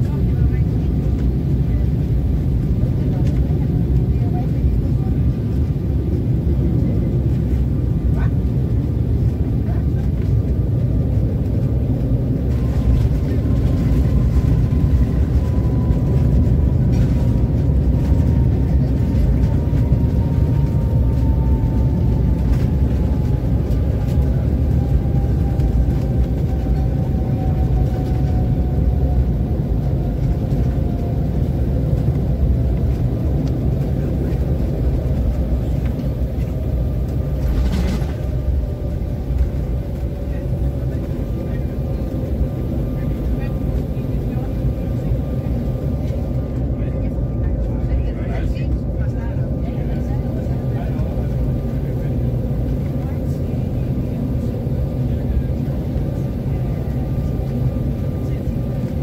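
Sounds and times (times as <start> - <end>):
jet engine whine falling: 0.0 - 59.0
wheels rumbling on runway: 0.0 - 59.0.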